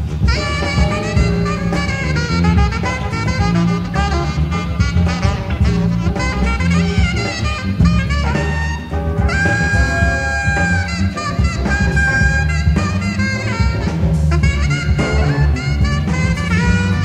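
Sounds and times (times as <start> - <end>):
drums: 0.0 - 17.0
electric bass: 0.0 - 17.0
saxophone: 0.0 - 17.0
trumpet: 0.0 - 17.0.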